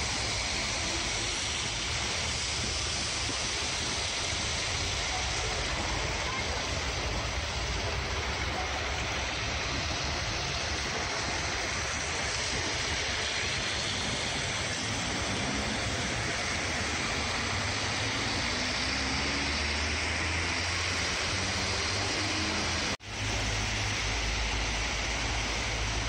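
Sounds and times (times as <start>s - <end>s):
tyres washing through slush: 0.0s - 26.0s.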